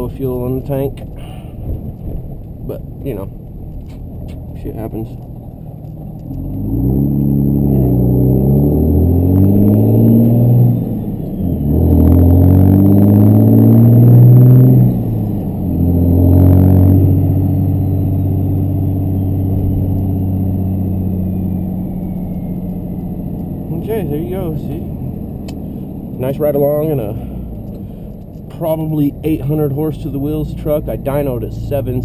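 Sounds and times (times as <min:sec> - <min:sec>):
diesel engine accelerating hard: 0:00.0 - 0:32.0.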